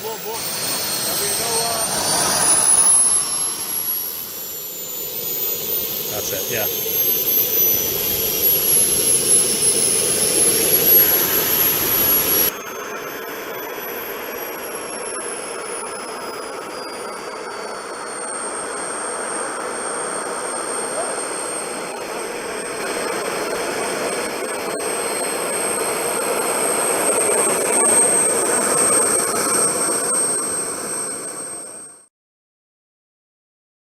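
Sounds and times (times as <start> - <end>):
model turboprop turbine whine: 0.0 - 32.1.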